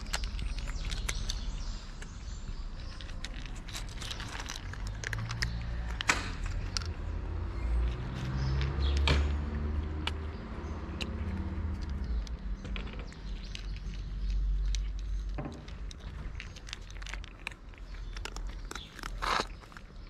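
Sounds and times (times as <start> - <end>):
cats crunching dry kibble: 0.0 - 20.0.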